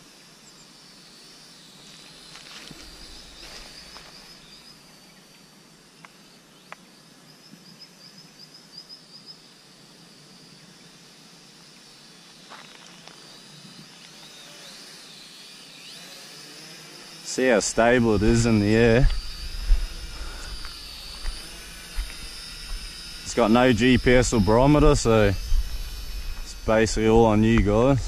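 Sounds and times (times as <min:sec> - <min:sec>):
high-pitched hum: 0:00.0 - 0:28.0.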